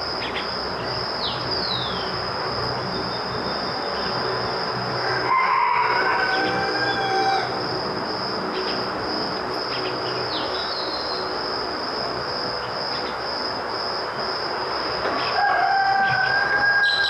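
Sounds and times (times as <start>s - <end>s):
high continuous drone: 0.0s - 17.0s.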